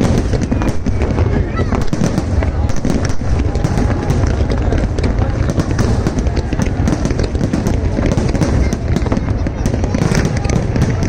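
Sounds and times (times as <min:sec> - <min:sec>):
fireworks crackling and popping: 0:00.0 - 0:11.0
low rumble of firework bursts: 0:00.0 - 0:11.0.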